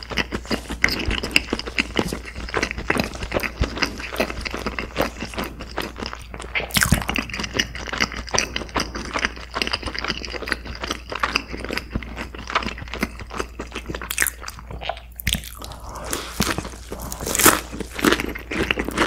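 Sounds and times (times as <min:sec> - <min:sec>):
crunchy chewing of fried chicken: 0:00.0 - 0:19.0.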